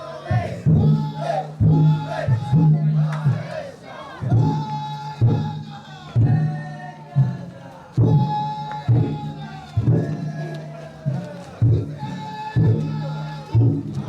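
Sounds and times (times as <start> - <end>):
men chanting long held calls: 0.0 - 14.0
big drum struck in slow beat: 0.3 - 3.5, 4.2 - 12.9.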